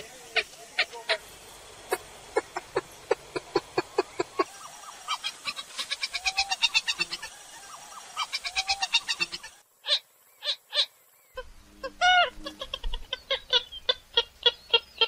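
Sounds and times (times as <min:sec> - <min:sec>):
bird clucking calls: 0:00.0 - 0:15.0.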